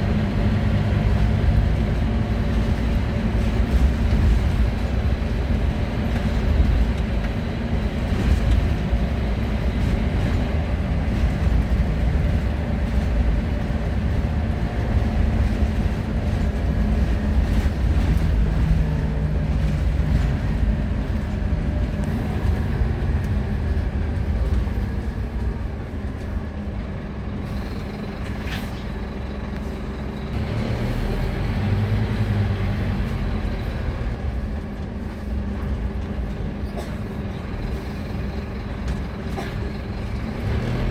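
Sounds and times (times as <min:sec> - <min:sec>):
bus engine and road noise: 0:00.0 - 0:40.9.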